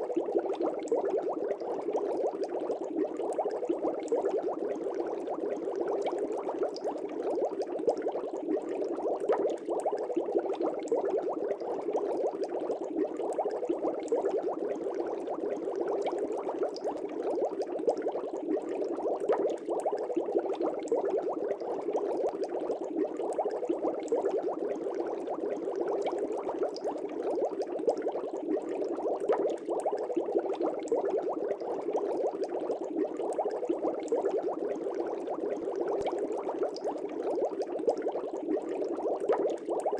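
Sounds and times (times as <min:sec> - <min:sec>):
aquarium air bubbles popping: 0:00.0 - 0:39.9.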